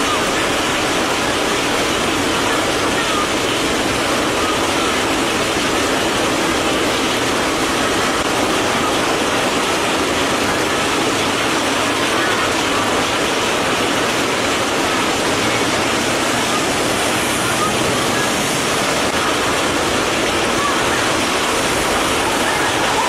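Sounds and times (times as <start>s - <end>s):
heavy rain on water: 0.0s - 23.0s.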